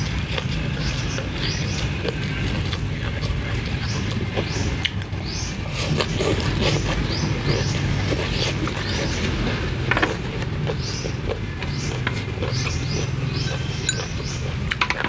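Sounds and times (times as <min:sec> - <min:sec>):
biting clicks: 0:00.0 - 0:15.0
crunchy chewing: 0:00.0 - 0:15.0.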